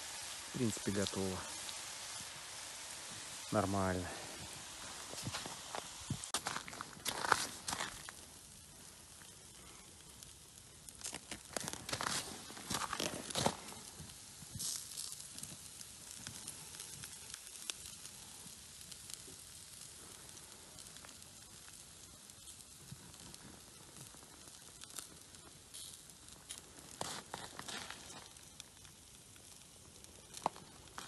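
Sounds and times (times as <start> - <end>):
meat sizzling over campfire: 0.0 - 31.0
small crackles: 0.0 - 31.0.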